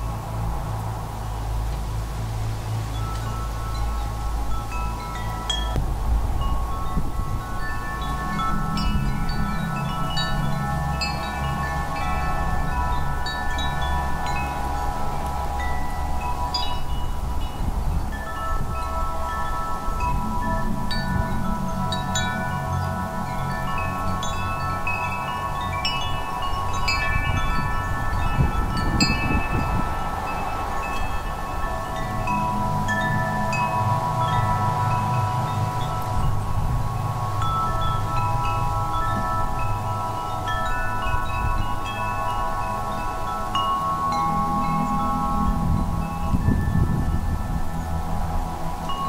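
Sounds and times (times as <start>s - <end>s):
low wind rumble: 0.0s - 49.0s
wind chimes ringing: 0.0s - 49.0s.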